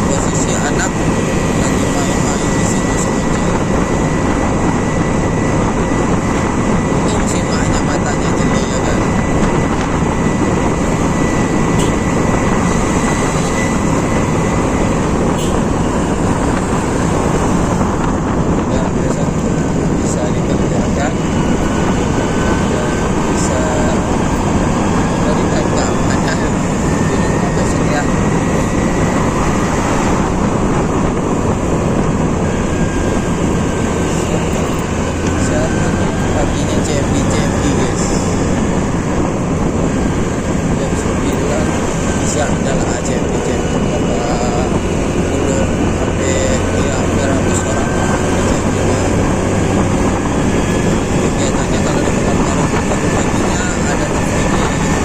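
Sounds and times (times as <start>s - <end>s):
road noise: 0.0s - 55.0s
wind on microphone: 0.0s - 55.0s.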